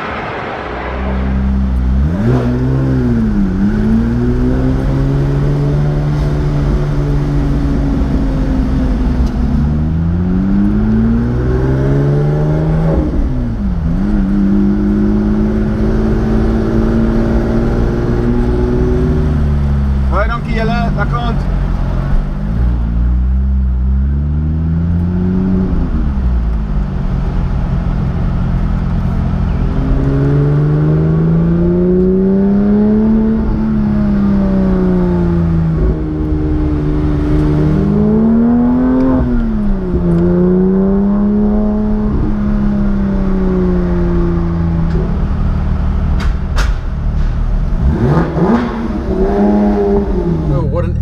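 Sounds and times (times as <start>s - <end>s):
car engine accelerating: 0.0s - 51.0s
road rumble: 0.0s - 51.0s.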